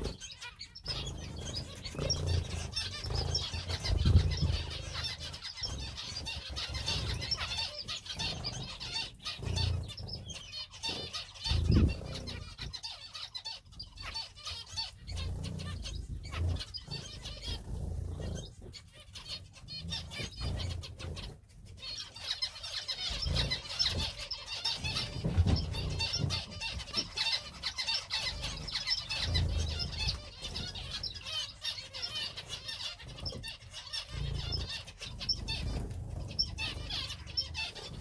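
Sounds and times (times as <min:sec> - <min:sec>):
wings fluttering: 0:00.0 - 0:12.8, 0:13.7 - 0:38.0
small birds chirping: 0:00.0 - 0:38.0.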